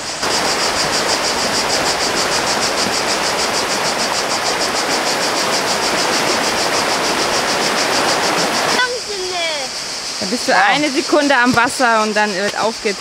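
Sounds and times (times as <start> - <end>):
river rushing over rocks: 0.0 - 12.0
insects shrilling: 0.0 - 13.0.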